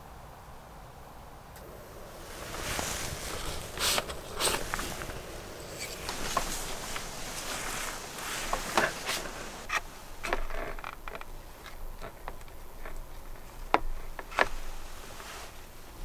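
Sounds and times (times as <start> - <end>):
soft rustling: 1.6 - 16.0.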